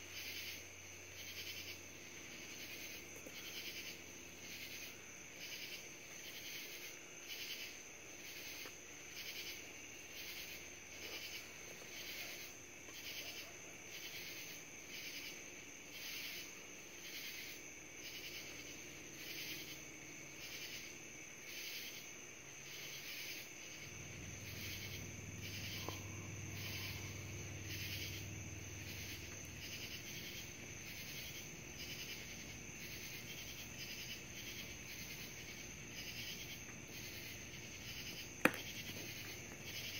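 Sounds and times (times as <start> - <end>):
high insect trill: 0.0 - 39.9
insects chirping: 0.0 - 39.9.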